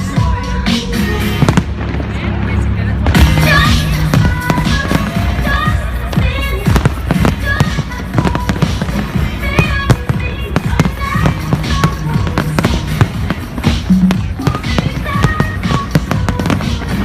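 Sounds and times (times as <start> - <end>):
loud music: 0.0 - 17.0
fireworks bangs and crackles: 1.2 - 17.0.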